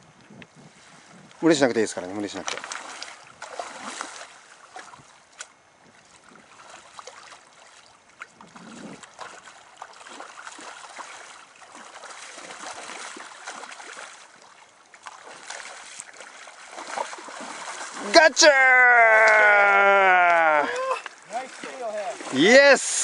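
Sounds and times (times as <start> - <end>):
river water rippling: 0.0 - 23.0
fish splashing: 2.4 - 23.0.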